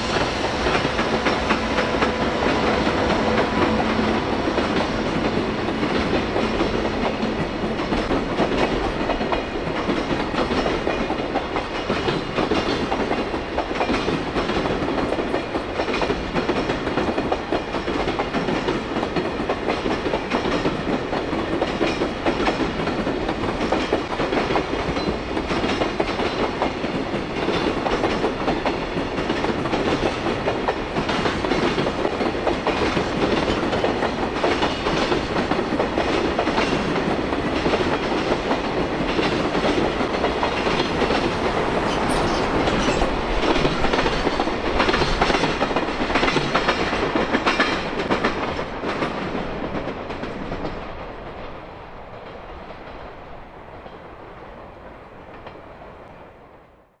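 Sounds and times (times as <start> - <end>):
wheels clacking over rail joints: 0.0 - 50.9
freight train rumbling past: 0.0 - 56.9.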